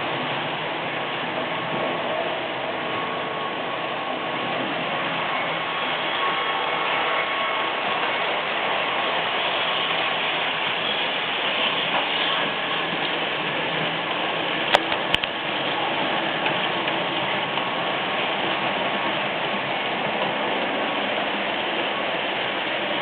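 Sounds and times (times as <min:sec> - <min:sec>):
wheels rattling on rails: 0:00.0 - 0:23.0.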